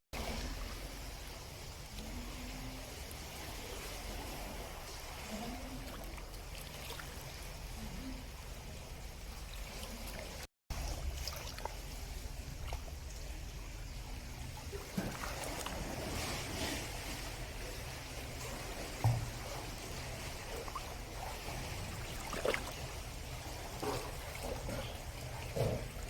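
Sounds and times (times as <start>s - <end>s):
water trickling and lapping: 0.1s - 26.0s.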